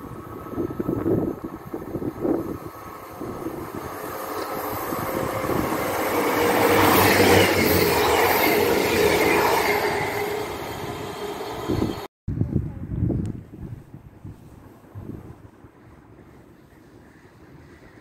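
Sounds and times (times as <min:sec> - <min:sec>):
passenger train passing: 0:00.0 - 0:12.1, 0:14.6 - 0:18.0.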